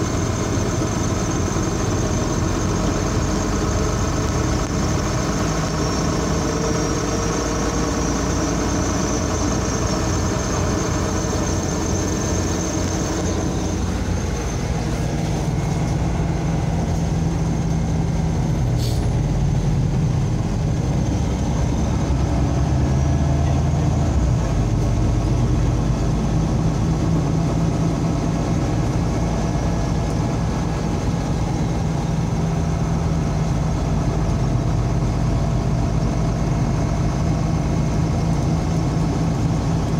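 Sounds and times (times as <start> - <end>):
bus engine drone: 0.0 - 39.9
road noise: 0.0 - 39.9.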